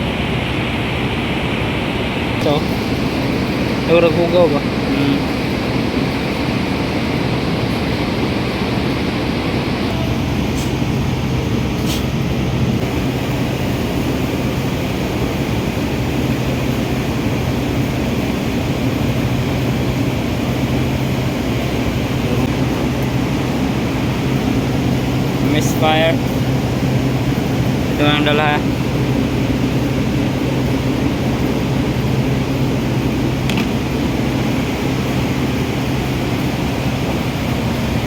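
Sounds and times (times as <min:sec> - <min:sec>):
car engine idling with misfire: 0:00.0 - 0:38.0.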